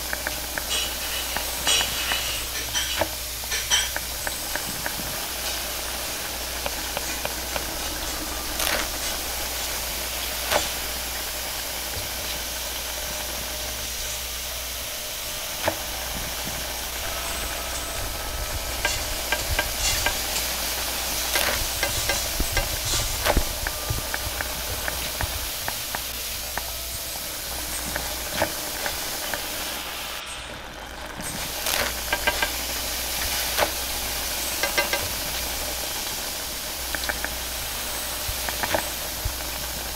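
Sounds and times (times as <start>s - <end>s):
food sizzling in wok: 0.0s - 39.9s
gas burner flame hissing: 0.0s - 39.9s.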